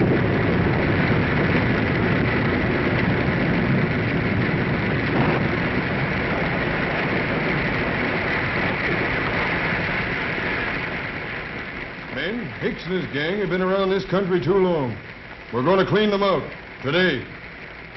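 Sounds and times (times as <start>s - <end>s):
wind and rain rushing: 0.0s - 17.9s.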